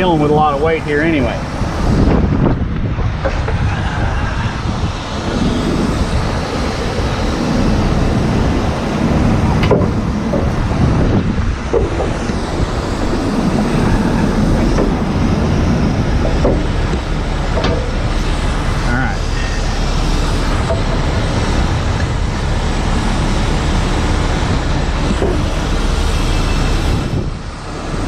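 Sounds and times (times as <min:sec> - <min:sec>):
diesel engine running: 0:00.0 - 0:28.0
hydraulic working noise: 0:00.0 - 0:28.0
wind rumble on microphone: 0:00.0 - 0:28.0.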